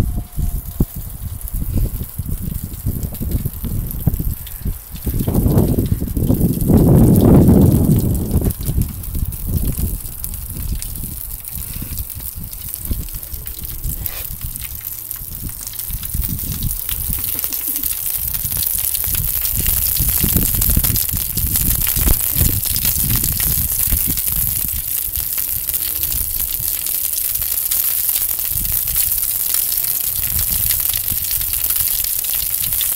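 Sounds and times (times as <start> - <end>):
sausages sizzling on a barbecue: 0.0 - 32.9
wind rumble on microphone: 0.0 - 32.9.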